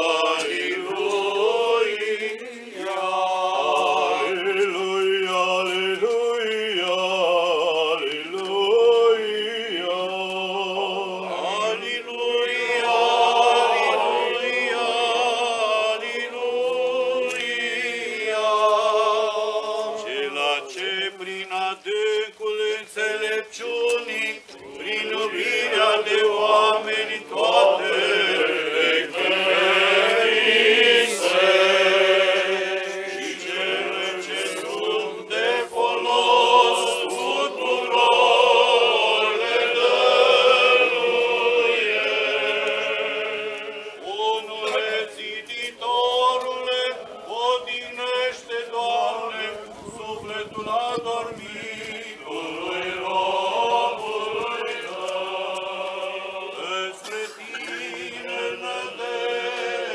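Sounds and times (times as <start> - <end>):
choir chanting: 0.0 - 59.9.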